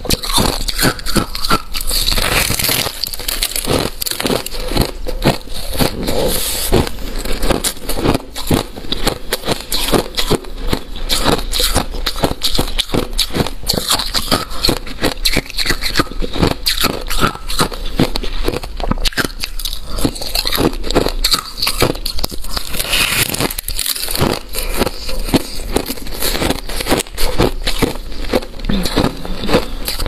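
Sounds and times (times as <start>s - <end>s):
ice crunching being chewed: 0.0s - 30.0s.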